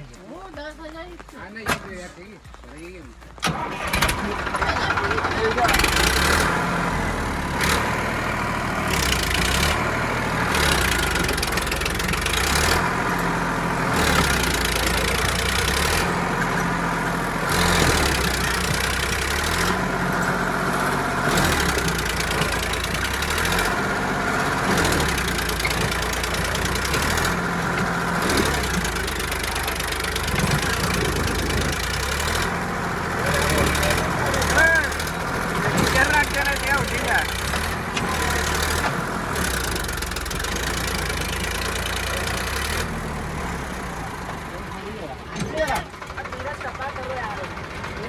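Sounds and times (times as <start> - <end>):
tractor diesel engine straining: 0.0 - 48.0.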